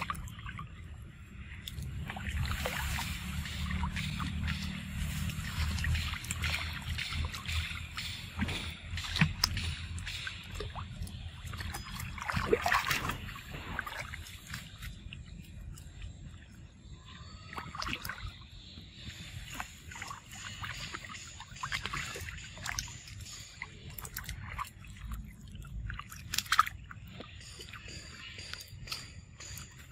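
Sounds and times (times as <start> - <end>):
water splashing: 0.0 - 29.9.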